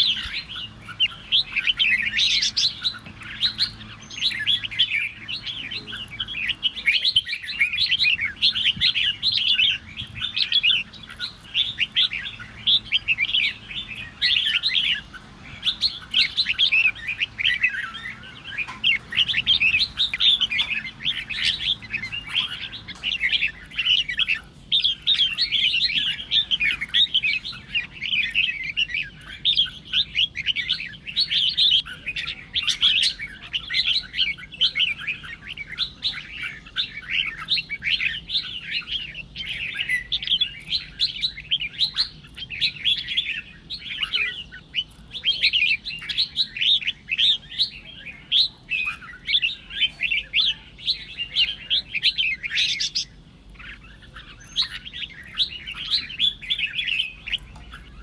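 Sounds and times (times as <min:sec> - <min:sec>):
bird chirping and whistling: 0:00.0 - 0:58.0.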